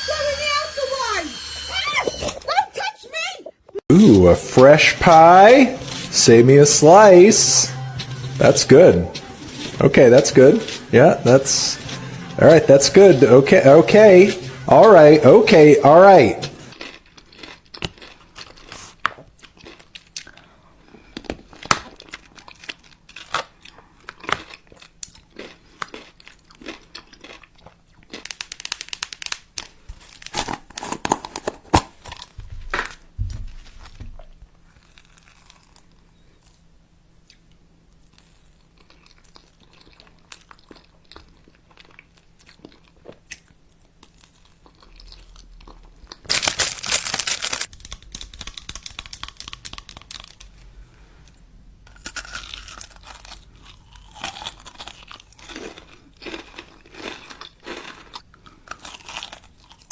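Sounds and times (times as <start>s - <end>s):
close-up crunching and crinkling: 9.5s - 36.7s, 37.3s - 50.7s, 51.9s - 59.9s.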